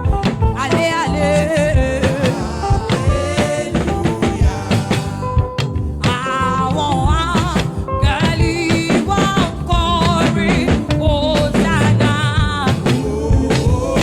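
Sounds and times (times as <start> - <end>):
live band with drum kit: 0.0 - 14.0
person singing: 0.0 - 14.0.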